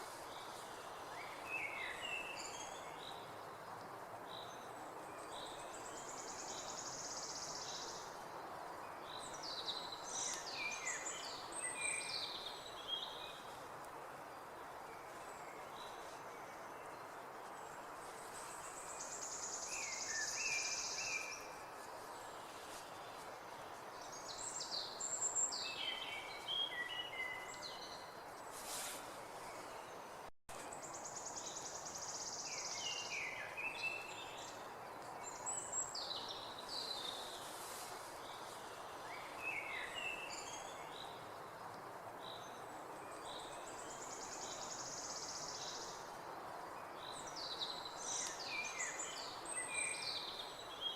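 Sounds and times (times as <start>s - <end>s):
steady background hiss: 0.0s - 50.9s.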